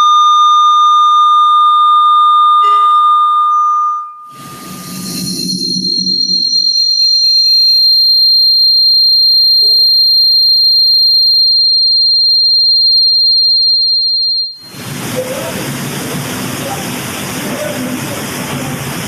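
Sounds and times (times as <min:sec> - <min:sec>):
high-pitched audio feedback squeal: 0:00.0 - 0:15.6.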